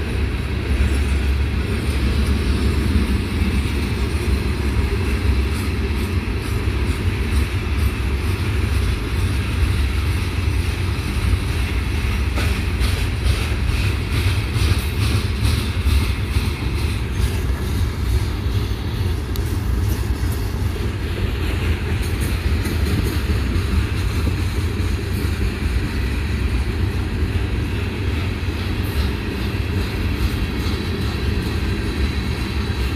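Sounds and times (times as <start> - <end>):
freight train rumbling: 0.0 - 32.9.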